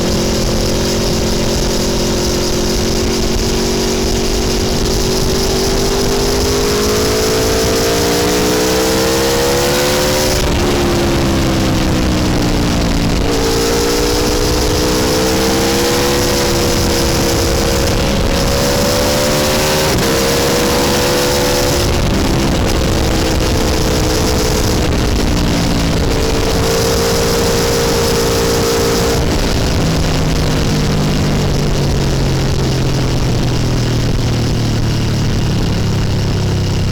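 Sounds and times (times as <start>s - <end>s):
motorcycle engine accelerating: 0.0s - 36.9s
wind noise: 0.0s - 36.9s.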